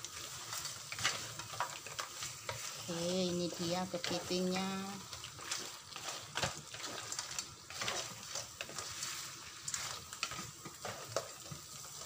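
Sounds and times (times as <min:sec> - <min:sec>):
food sizzling in a wok: 0:00.0 - 0:12.0
wooden spatula scraping a pan: 0:00.0 - 0:12.0.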